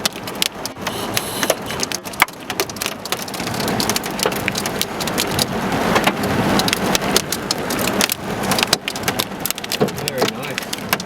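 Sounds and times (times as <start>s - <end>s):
drops or hailstones striking: 0.0s - 11.0s.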